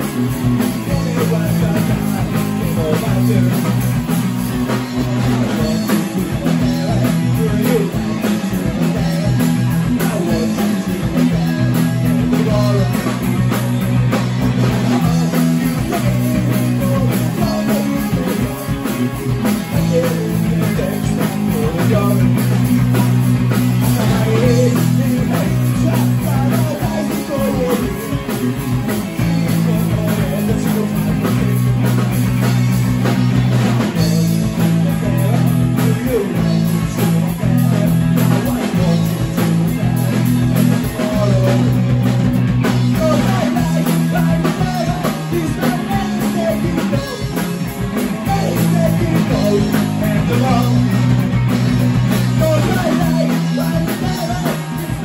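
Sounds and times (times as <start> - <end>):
distorted electric guitars: 0.0 - 55.0
drum kit: 0.0 - 55.0
man singing into microphone: 0.6 - 3.8, 4.7 - 13.2, 14.7 - 23.1, 23.8 - 31.5, 34.0 - 51.1, 52.2 - 55.0.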